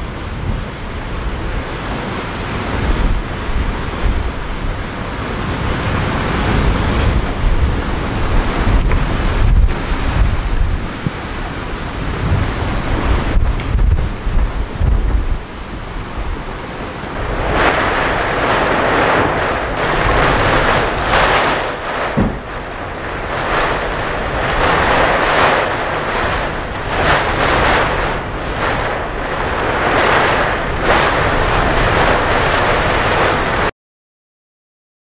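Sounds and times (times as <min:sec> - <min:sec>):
strong gusty wind: 0:00.0 - 0:33.7
wind rumble on microphone: 0:00.0 - 0:33.7.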